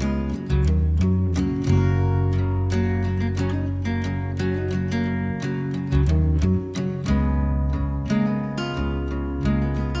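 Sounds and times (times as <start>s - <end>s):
bass line: 0.0s - 10.0s
strummed acoustic guitar: 0.0s - 10.0s.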